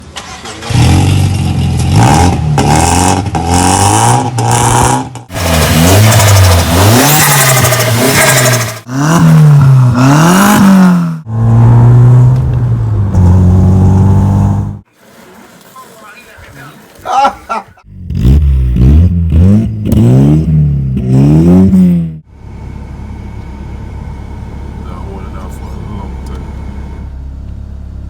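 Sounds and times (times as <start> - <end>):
car engine revving: 0.6 - 16.6, 17.9 - 28.0.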